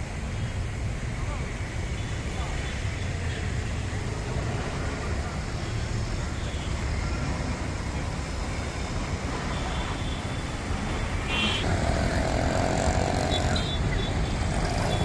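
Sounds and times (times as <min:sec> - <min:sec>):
city road traffic rumble: 0:00.0 - 0:15.0.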